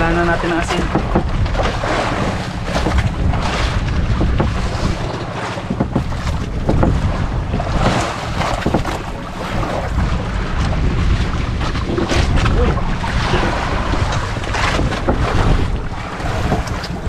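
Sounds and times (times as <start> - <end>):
water lapping against boat: 0.0 - 17.0
wind buffeting microphone: 0.0 - 17.0.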